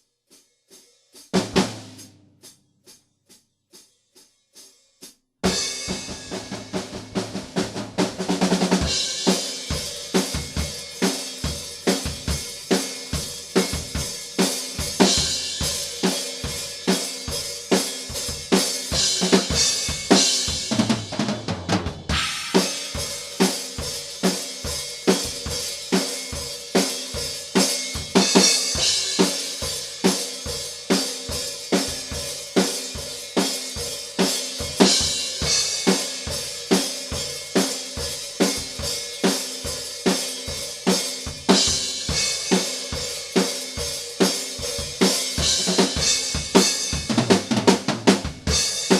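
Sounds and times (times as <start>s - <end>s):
drum kit playing metal groove: 0.7s - 2.6s, 5.4s - 48.9s.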